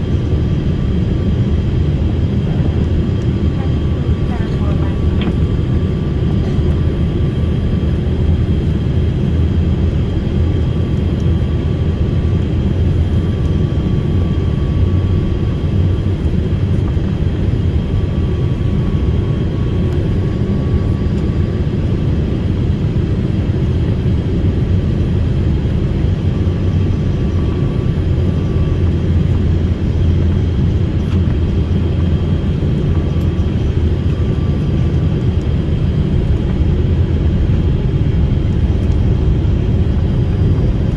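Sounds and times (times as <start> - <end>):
airliner engine rumble: 0.0 - 40.9.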